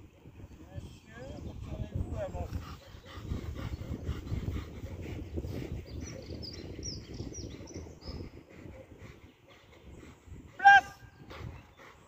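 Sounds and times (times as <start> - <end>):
low fluttering wind rumble: 0.0 - 12.0
small birds chirping: 0.3 - 12.0.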